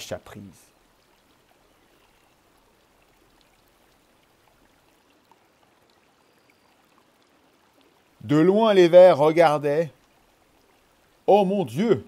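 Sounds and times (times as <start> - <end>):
faint steady background hiss: 0.0 - 12.0.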